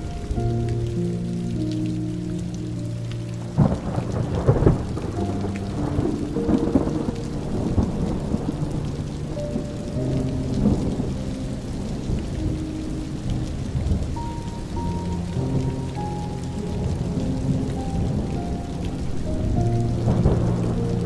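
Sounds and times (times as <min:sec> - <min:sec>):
music with sustained notes: 0:00.0 - 0:21.0
steady rain: 0:00.0 - 0:21.0
thunder rumbling: 0:00.0 - 0:21.0.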